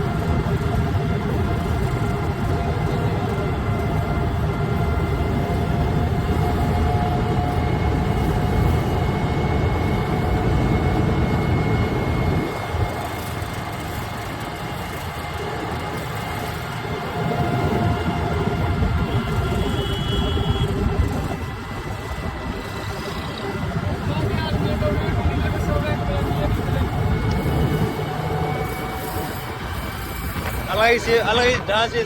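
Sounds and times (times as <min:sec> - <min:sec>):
combine harvester engine rumbling: 0:00.0 - 0:32.0.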